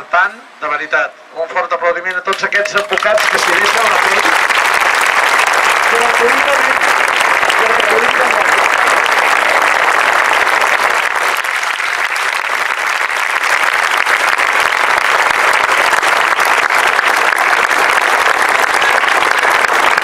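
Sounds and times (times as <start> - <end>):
crowd applauding: 2.3 - 20.0.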